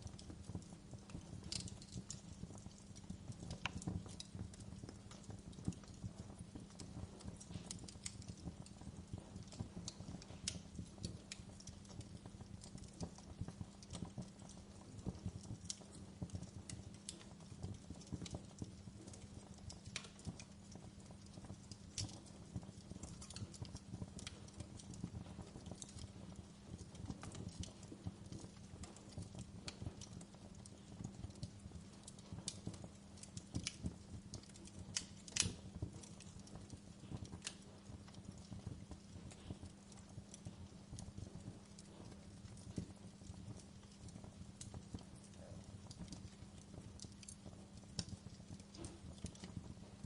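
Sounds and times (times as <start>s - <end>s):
low steady hum: 0.0s - 50.0s
wood fire crackling: 0.0s - 50.0s.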